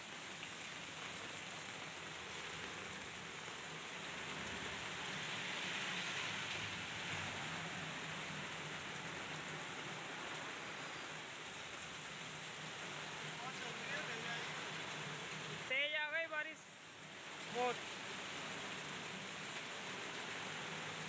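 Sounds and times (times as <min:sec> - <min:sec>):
heavy rain on a wet road: 0:00.0 - 0:21.0.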